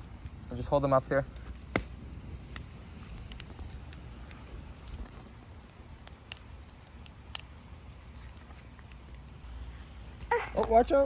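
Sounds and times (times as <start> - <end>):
bonfire wood crackling: 0.0 - 11.0.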